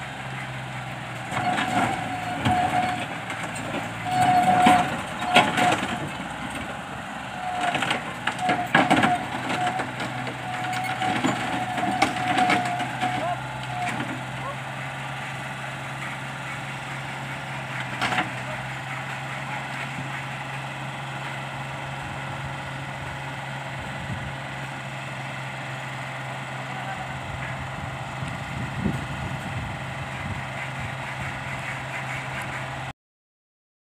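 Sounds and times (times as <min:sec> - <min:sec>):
engine idling: 0:00.0 - 0:32.9.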